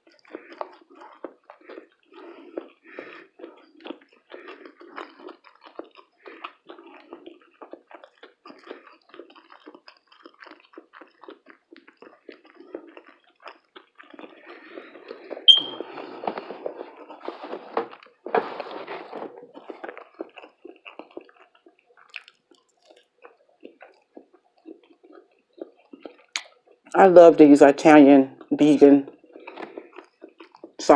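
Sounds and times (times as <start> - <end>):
person chewing food: 0.0 - 27.0, 27.9 - 30.9.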